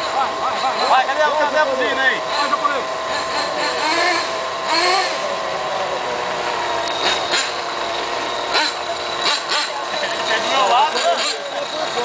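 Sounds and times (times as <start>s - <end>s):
model car engines buzzing: 0.0s - 12.0s.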